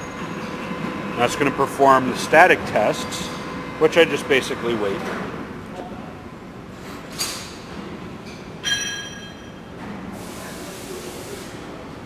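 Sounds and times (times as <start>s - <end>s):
workshop background noise: 0.0s - 12.0s.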